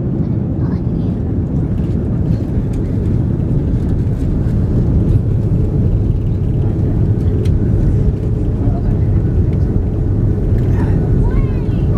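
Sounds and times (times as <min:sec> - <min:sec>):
jet engines: 0:00.0 - 0:11.9
wheels rumbling on runway: 0:00.0 - 0:11.9.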